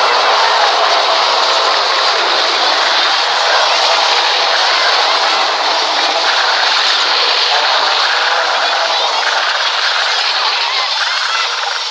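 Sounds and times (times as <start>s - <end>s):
freight train passing: 0.0s - 11.9s.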